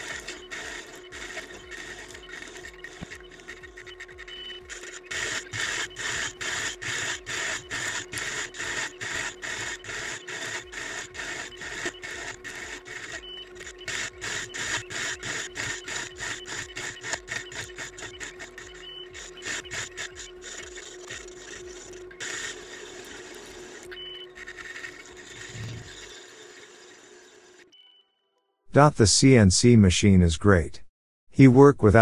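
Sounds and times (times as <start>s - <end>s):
choppy machine whir: 0.0s - 27.7s
steady hum: 0.0s - 27.7s.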